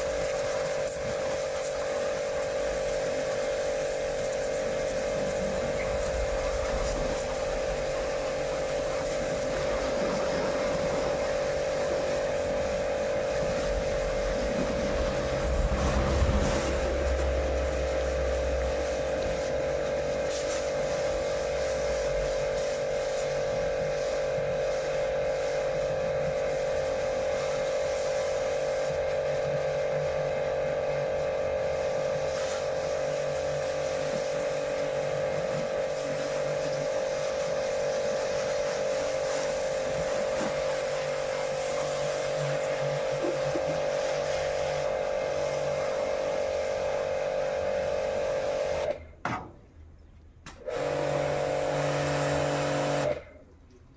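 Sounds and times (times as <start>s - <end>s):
water jet spraying a car: 0.0s - 49.2s, 50.6s - 53.5s
pressure washer humming: 0.0s - 49.4s, 50.5s - 53.4s.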